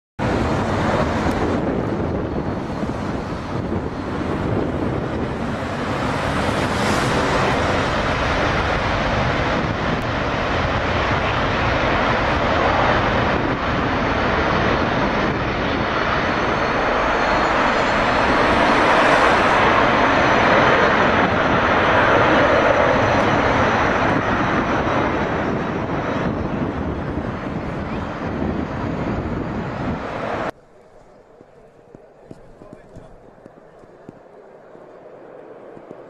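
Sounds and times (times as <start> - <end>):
jet engine roaring: 0.2 - 36.0.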